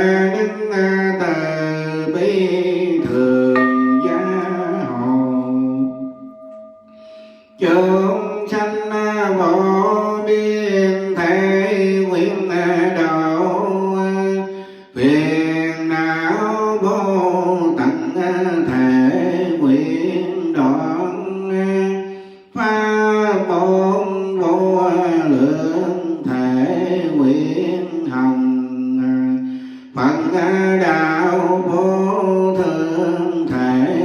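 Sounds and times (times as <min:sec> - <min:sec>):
devotional chanting: 0:00.0 - 0:34.0.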